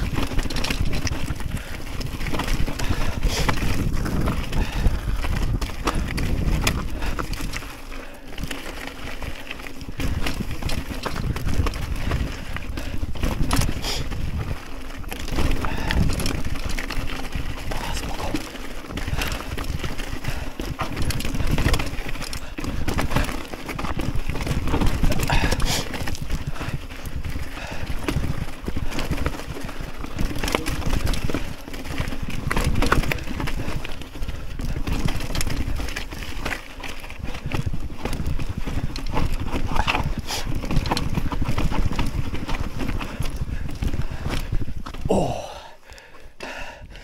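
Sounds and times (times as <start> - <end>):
mountain bike knocks and clatter: 0.0 - 7.7, 8.4 - 45.1
wind rumbling on microphone: 0.0 - 45.9.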